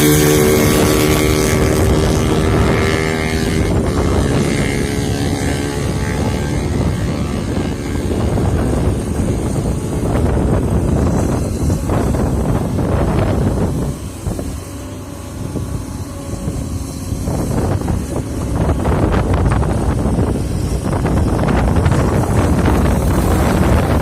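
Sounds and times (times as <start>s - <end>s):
excavator diesel engine running: 0.0s - 24.0s
wind buffeting microphone: 0.0s - 24.0s.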